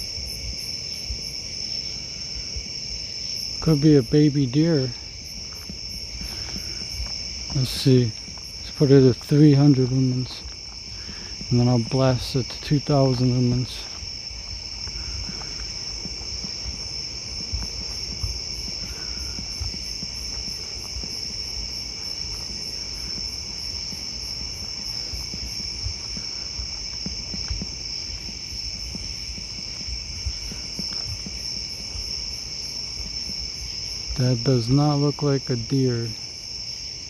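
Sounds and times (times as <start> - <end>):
night insects trilling: 0.0 - 37.0
rapidly pulsing insect call: 0.0 - 37.0.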